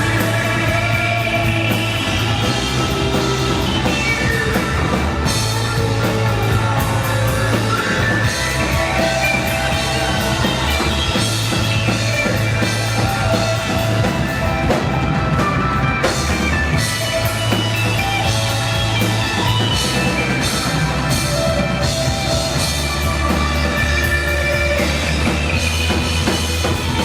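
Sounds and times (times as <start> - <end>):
bass guitar: 0.0 - 27.0
electric guitar: 0.0 - 27.0.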